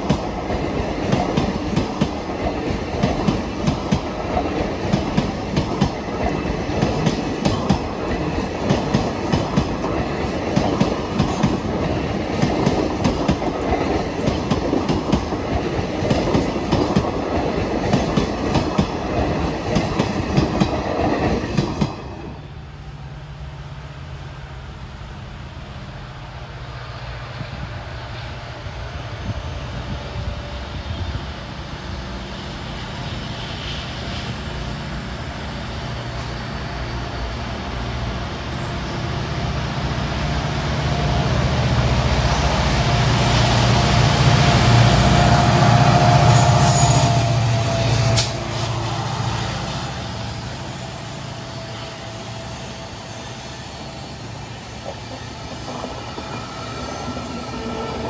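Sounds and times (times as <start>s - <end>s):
diesel locomotive engine humming: 0.0s - 58.0s.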